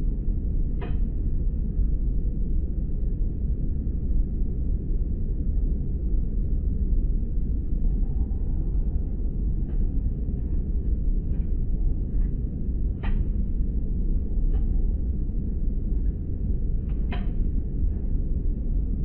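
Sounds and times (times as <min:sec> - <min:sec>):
airliner engine and airflow rumble: 0:00.0 - 0:19.0.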